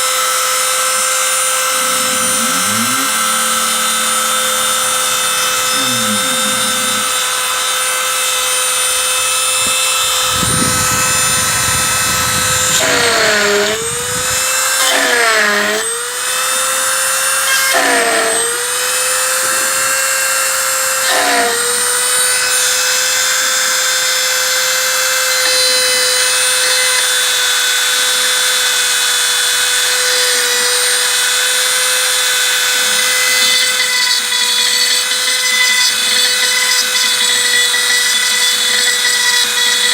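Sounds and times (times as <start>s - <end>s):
router spindle whining cutting metal: 0.0s - 39.9s.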